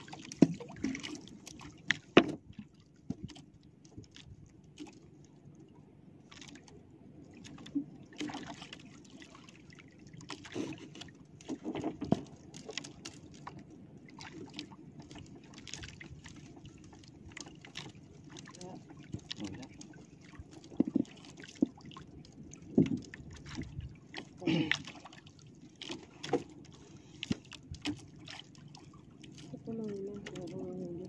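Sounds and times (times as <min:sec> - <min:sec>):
water lapping against hull: 0:00.0 - 0:31.0.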